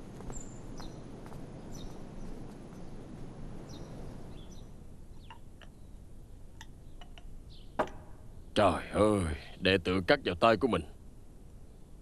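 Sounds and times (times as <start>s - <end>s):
small birds chirping: 0.1s - 9.9s.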